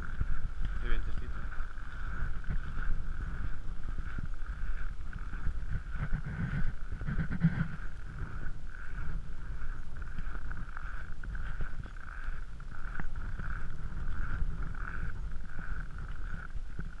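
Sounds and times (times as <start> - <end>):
footsteps crunching in snow: 0.0 - 17.0
wind rumble on microphone: 0.0 - 17.0.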